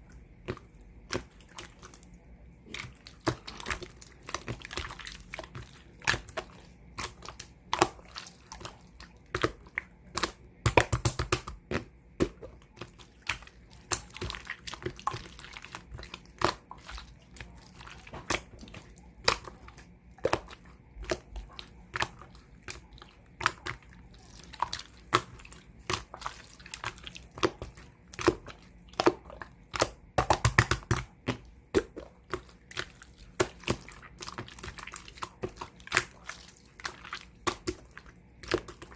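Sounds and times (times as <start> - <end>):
slime crackling: 0.2 - 38.9
slime squishing and popping: 0.4 - 38.9.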